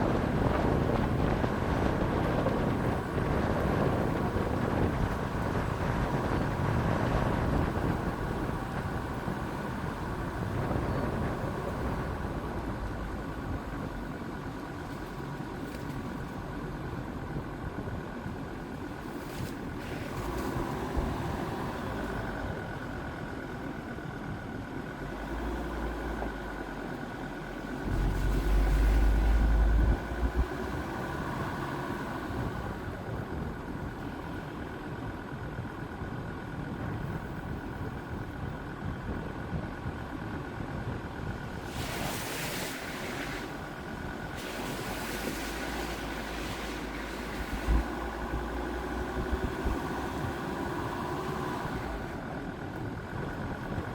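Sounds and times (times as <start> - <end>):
diesel engine running: 0.0 - 53.9
engine whine: 0.0 - 53.9.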